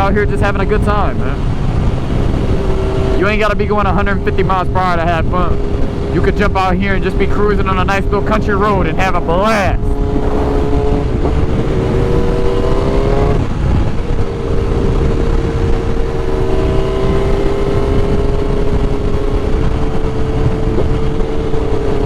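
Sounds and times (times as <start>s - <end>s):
motorcycle engine accelerating: 0.0s - 22.0s
wind noise rushing: 0.0s - 22.0s.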